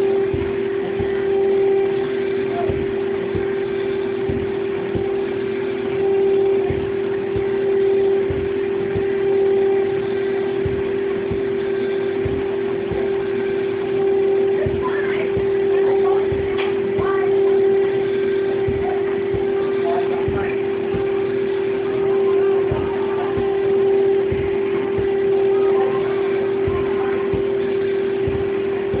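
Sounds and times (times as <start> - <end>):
milling machine spindle drone: 0.0 - 29.0.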